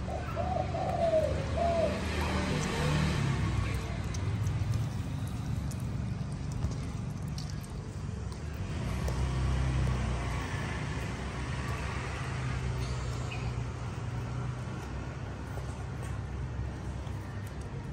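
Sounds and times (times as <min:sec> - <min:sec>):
tortoises crunching fruit: 0:00.0 - 0:17.9.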